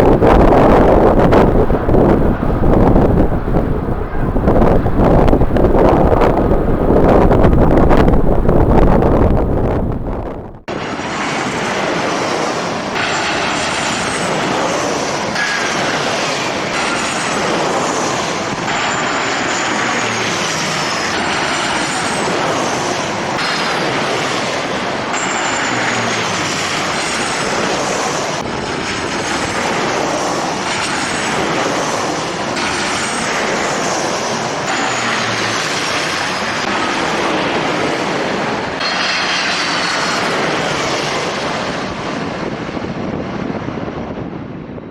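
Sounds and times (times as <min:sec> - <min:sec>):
jet engines rushing and whining: 0:00.0 - 0:44.9.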